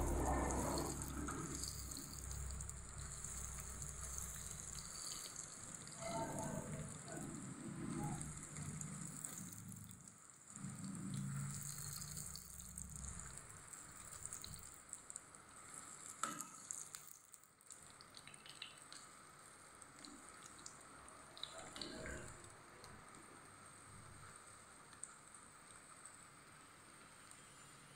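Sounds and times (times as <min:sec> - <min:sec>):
eggs sizzling in hot oil: 0:00.0 - 0:27.9.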